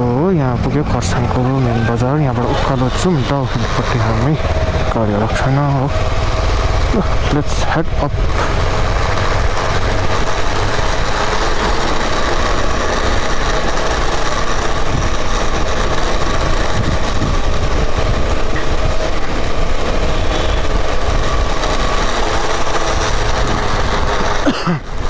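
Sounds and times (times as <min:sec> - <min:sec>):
motorcycle engine running: 0:00.0 - 0:25.0
road noise: 0:00.0 - 0:25.0.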